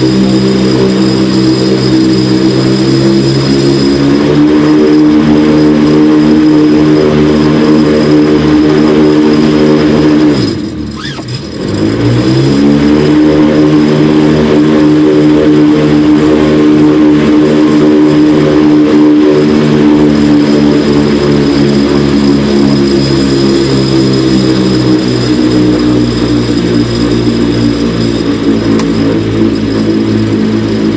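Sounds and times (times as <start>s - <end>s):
aircraft engine running: 0.0s - 30.9s.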